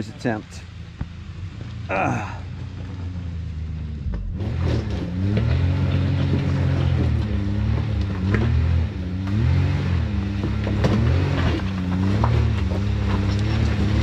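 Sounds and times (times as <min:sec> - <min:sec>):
utility vehicle engine revving: 0:00.0 - 0:14.0.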